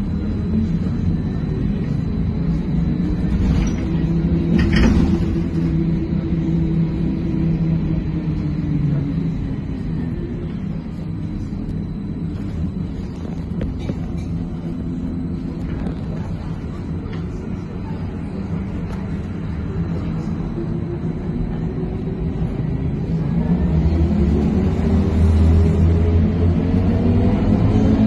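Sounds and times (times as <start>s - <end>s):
trolleybus motor whine rising: 0.0s - 28.0s
trolleybus rolling rumble: 0.0s - 28.0s.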